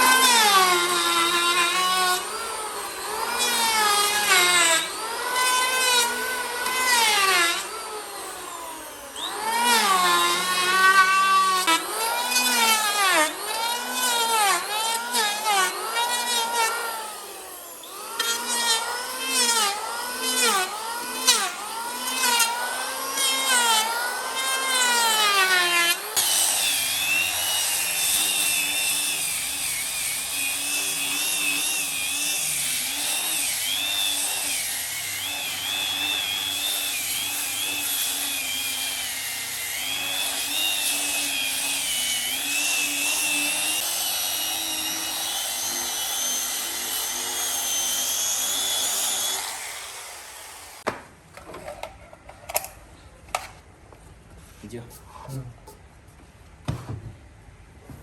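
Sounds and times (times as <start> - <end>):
power tool motor cutting wood: 0.0 - 50.9.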